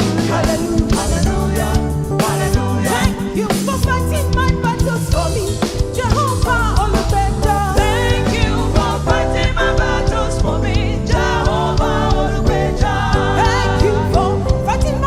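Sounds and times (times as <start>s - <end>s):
band playing: 0.0s - 15.0s
steady drum beat: 0.0s - 15.0s
voices singing: 0.0s - 15.0s.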